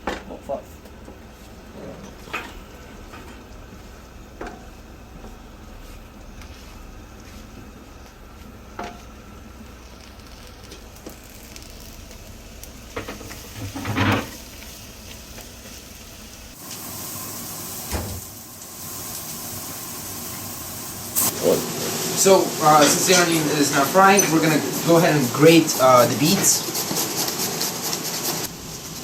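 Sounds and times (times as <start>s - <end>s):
onions sizzling in hot oil: 1.2s - 29.0s.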